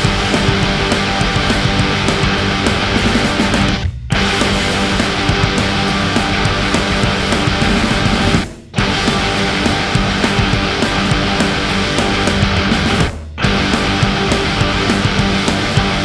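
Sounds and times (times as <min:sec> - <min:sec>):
heavy metal music: 0:00.0 - 0:16.0.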